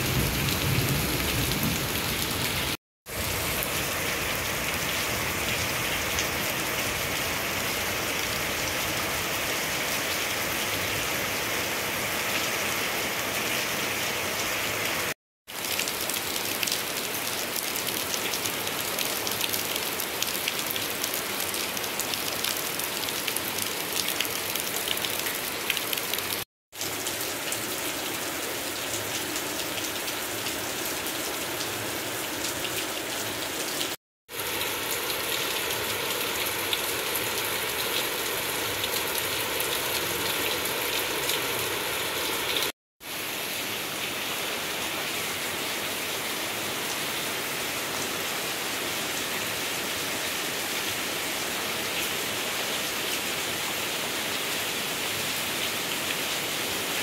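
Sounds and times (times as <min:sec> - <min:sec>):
heavy rain on leaves and roofing: 0:00.0 - 0:57.0.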